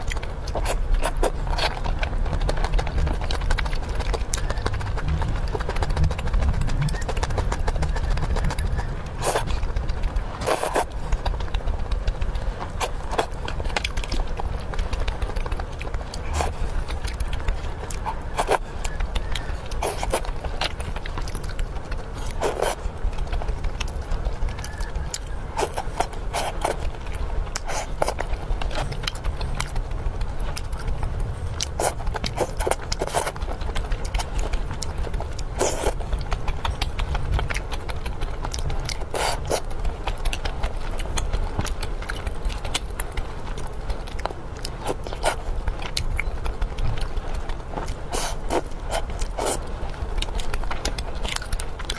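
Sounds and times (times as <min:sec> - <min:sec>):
fast chewing: 0:00.0 - 0:51.9
steady low rumble: 0:00.0 - 0:51.9.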